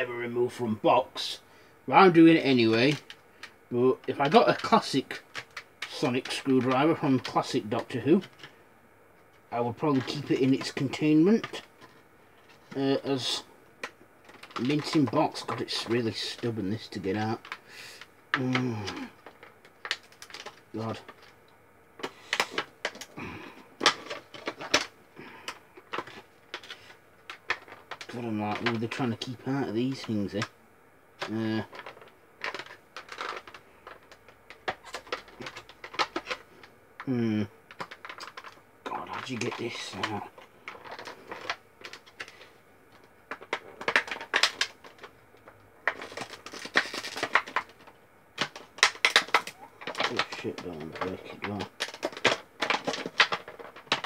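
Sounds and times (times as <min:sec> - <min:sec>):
plastic packaging crackling: 0:09.5 - 0:21.4, 0:22.0 - 0:30.5, 0:31.2 - 0:54.0.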